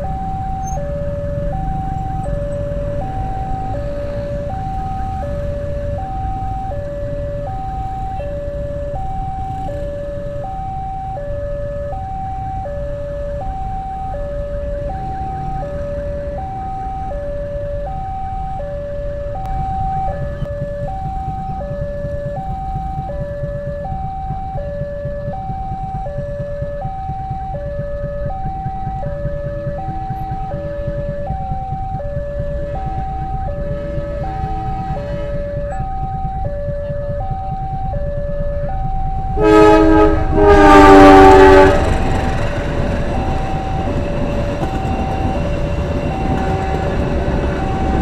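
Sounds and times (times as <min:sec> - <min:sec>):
engines idling: 0:00.0 - 0:48.0
level crossing two-tone alarm: 0:00.0 - 0:48.0.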